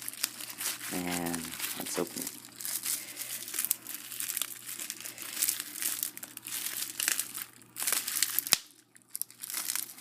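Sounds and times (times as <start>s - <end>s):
cellophane wrap crinkling: 0.0s - 10.0s.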